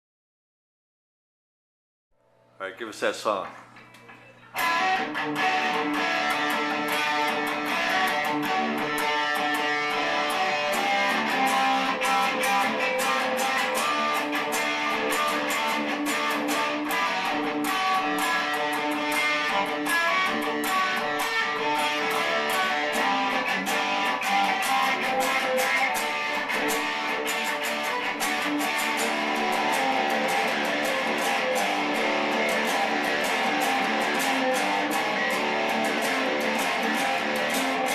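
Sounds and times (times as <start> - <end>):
guitar strummed and picked: 3.0 - 37.9.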